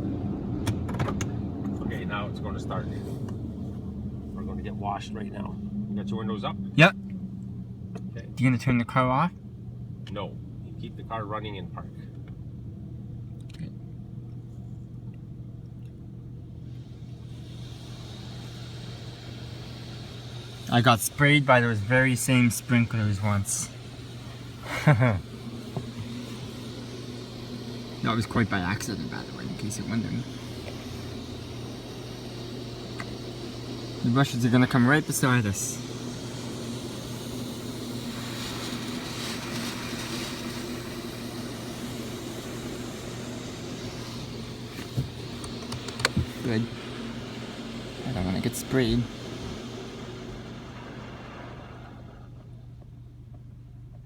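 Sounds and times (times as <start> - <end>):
car wash spray jets hissing: 0.0 - 12.2, 15.8 - 53.5
car engine idling hum: 0.0 - 54.0.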